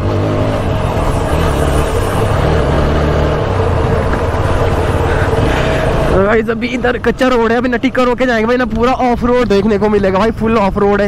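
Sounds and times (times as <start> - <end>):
motorcycle engine running: 0.0 - 11.0
steady rushing noise: 0.0 - 11.0.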